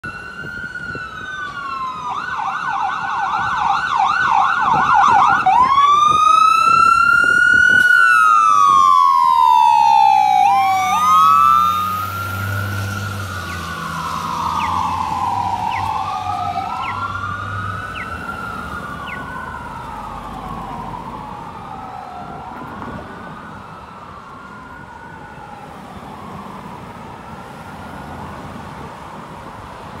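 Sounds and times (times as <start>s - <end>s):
fire engine siren: 0.0s - 30.0s
truck rumble: 4.2s - 30.0s.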